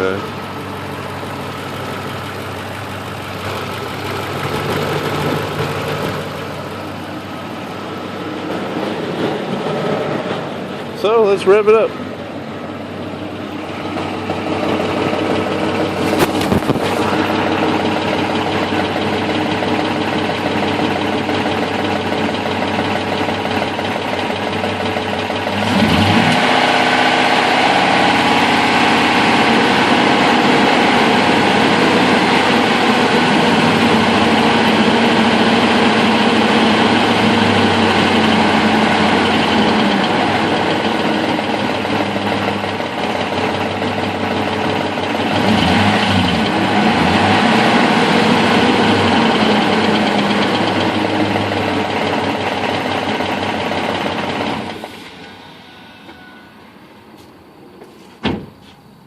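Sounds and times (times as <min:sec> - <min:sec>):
engine running with rattle: 0:00.0 - 0:58.9.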